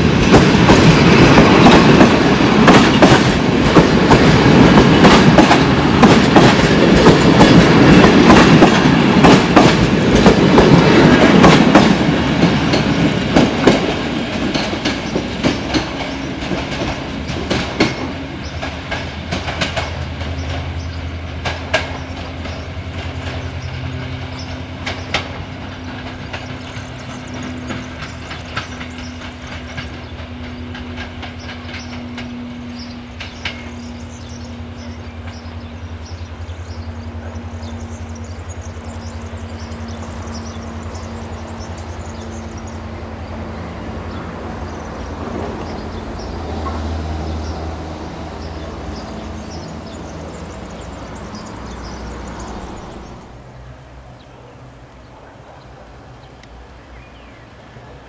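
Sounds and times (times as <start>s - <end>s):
wheels clacking over rail joints: 0.0s - 53.3s.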